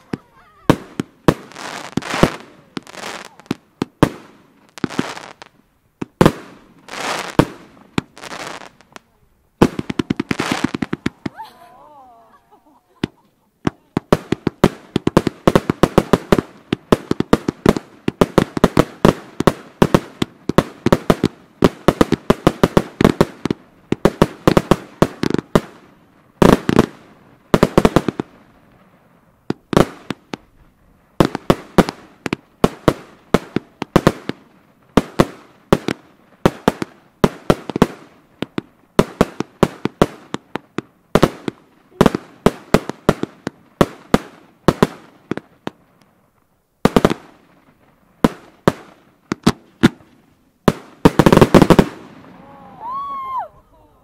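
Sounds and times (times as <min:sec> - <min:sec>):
firework bursts overhead: 0:00.0 - 0:53.5
fireworks firing in volleys: 0:00.0 - 0:54.0.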